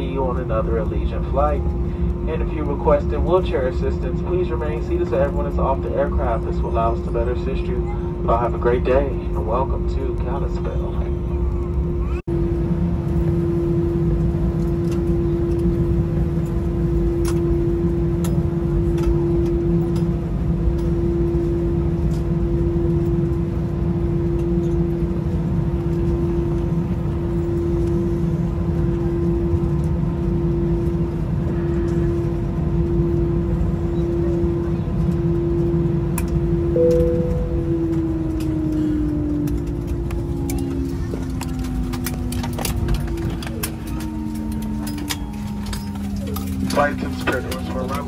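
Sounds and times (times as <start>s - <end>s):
jet engines idling hum: 0.0s - 48.0s
low cabin rumble: 0.0s - 48.0s.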